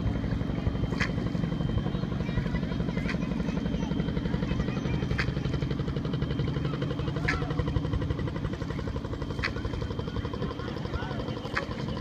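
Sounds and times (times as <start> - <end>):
motorboat engine pulsing: 0.0 - 12.0.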